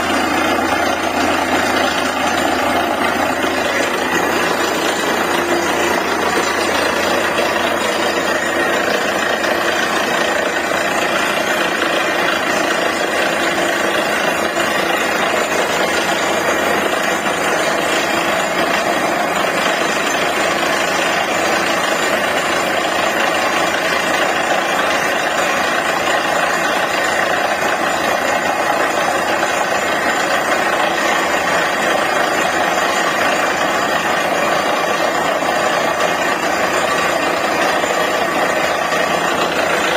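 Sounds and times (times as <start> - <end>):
drilling rig running: 0.0 - 39.9.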